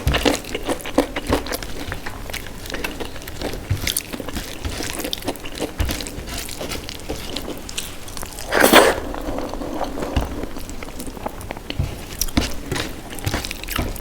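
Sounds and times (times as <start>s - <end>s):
wet chewing and smacking: 0.0s - 14.0s.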